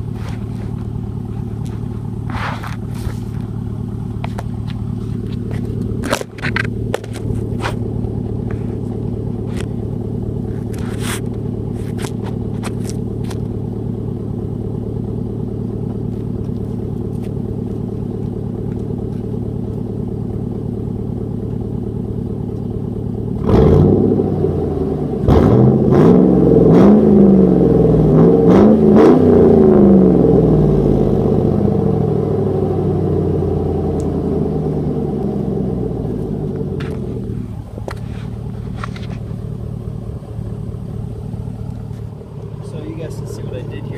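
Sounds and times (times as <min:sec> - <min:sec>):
straight-piped engine idling and revving: 0:00.0 - 0:43.9.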